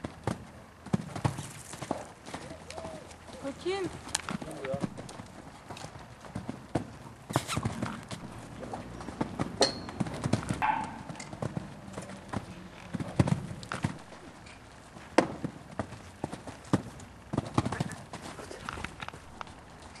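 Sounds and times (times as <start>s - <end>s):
horse hooves thudding on sand: 0.0s - 20.0s.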